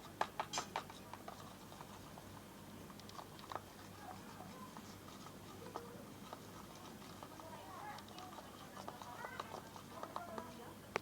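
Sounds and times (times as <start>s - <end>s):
slime squelching: 1.2s - 10.6s.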